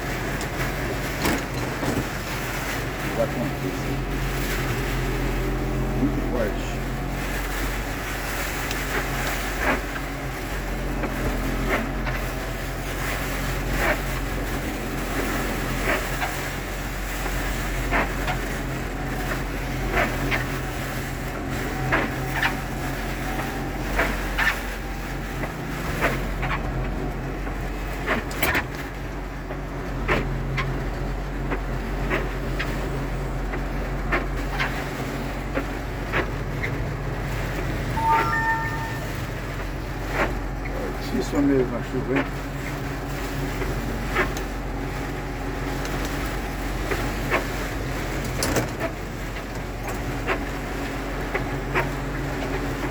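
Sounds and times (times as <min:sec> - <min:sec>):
rain: 0:00.0 - 0:41.4, 0:42.2 - 0:52.9.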